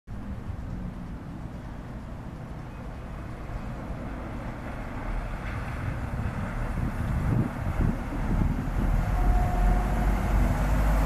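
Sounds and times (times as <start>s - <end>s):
diesel engine rumble: 0.1s - 11.0s.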